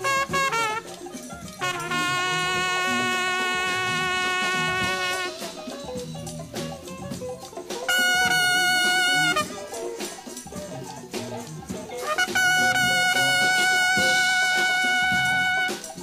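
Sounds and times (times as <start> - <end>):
free jazz ensemble: 0.0 - 16.0.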